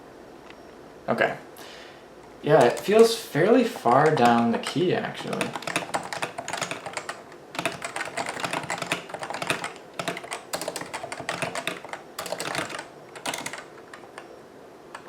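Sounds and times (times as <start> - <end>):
fast keyboard typing: 2.5 - 15.0.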